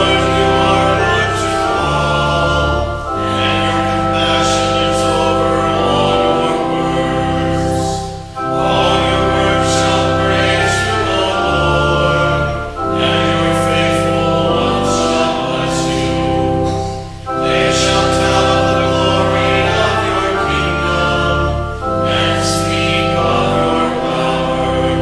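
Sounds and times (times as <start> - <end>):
group of voices singing: 0.0 - 25.0
organ accompaniment: 0.0 - 25.0.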